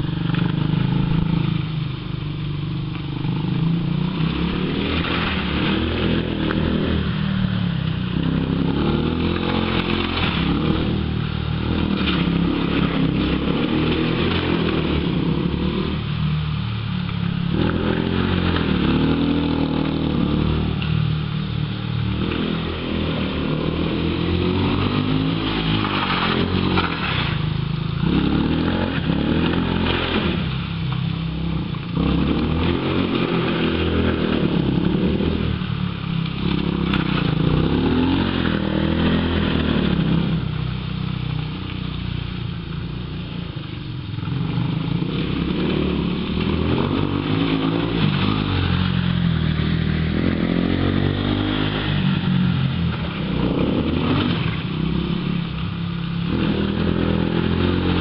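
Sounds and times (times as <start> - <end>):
buggy engine revving: 0.0 - 58.0.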